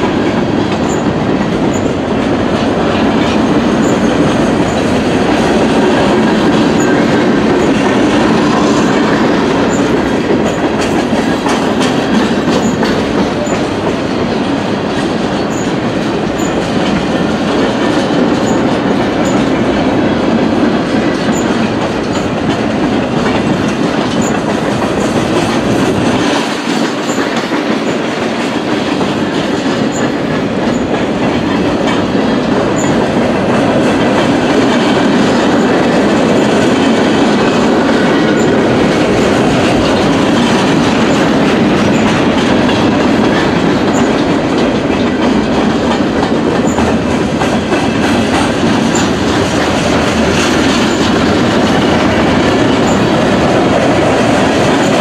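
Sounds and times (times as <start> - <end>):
freight train cars rolling past: 0.0 - 55.0.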